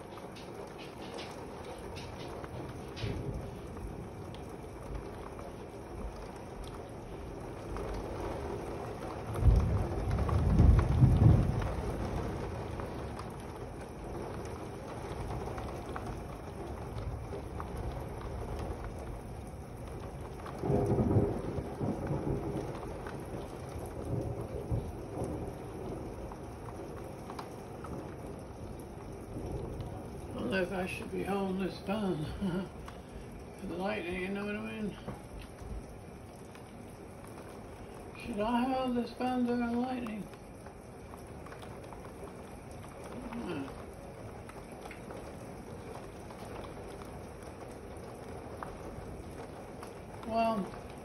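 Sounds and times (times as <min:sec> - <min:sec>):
steady rain: 0:00.0 - 0:51.0
thunder rumbling: 0:00.0 - 0:51.0.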